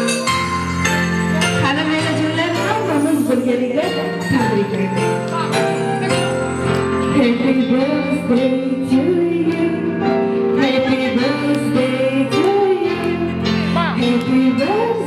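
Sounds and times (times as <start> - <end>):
instrumental backing: 0.0 - 15.0.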